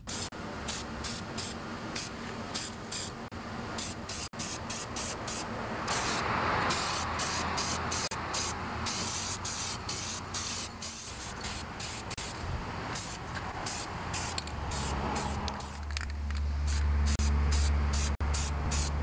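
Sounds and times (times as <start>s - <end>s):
spray paint can hissing: 0.0s - 3.2s, 3.8s - 19.0s.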